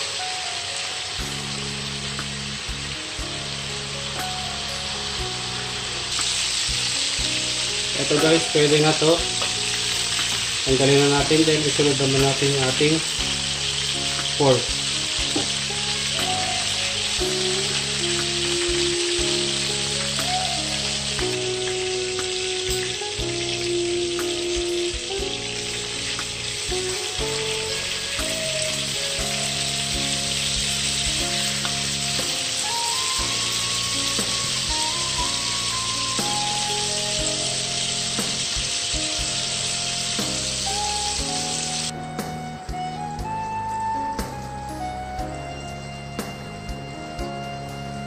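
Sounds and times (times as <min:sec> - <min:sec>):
background music melody: 0:00.0 - 0:48.0
meat sizzling in frying pan: 0:00.0 - 0:48.0.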